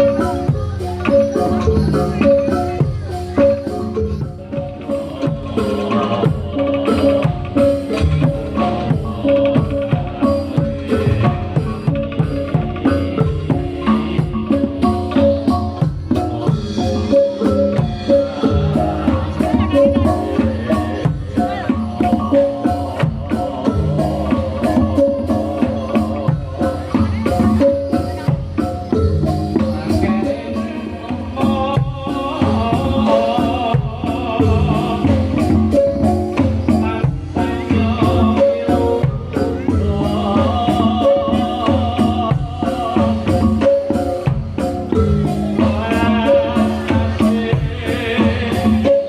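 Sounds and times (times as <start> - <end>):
metal percussion and gongs: 0.0 - 49.0
steady drum beat: 0.0 - 49.0.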